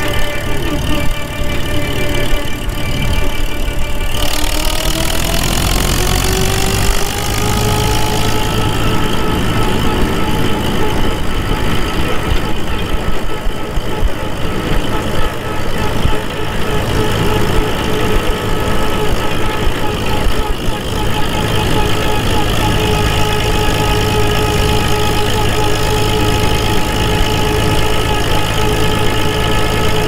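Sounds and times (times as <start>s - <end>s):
high gear whine: 0.0s - 30.0s
tractor engine running: 0.0s - 30.0s.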